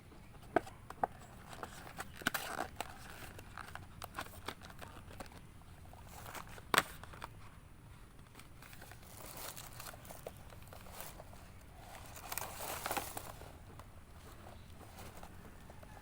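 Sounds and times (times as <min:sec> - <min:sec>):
plastic packaging crinkling: 0:01.0 - 0:07.4, 0:08.2 - 0:16.0.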